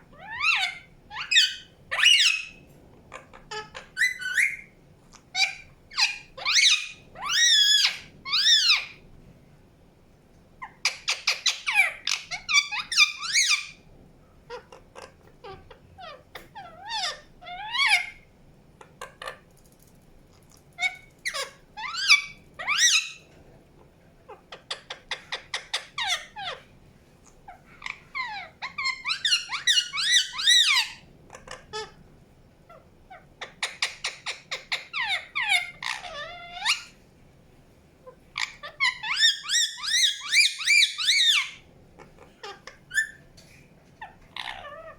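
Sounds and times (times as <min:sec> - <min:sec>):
parakeet chirping and squawking: 0:00.1 - 0:09.0, 0:10.6 - 0:13.8, 0:14.5 - 0:19.5, 0:20.6 - 0:23.3, 0:24.3 - 0:26.7, 0:27.4 - 0:32.0, 0:32.7 - 0:37.0, 0:38.0 - 0:44.9.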